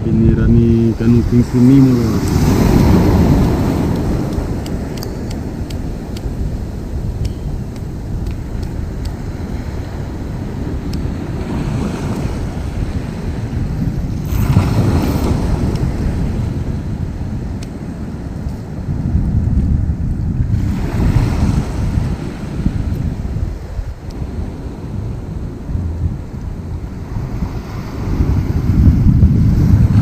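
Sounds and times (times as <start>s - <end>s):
surf waves washing in: 0.0s - 30.0s
wind rumbling on microphone: 0.0s - 30.0s.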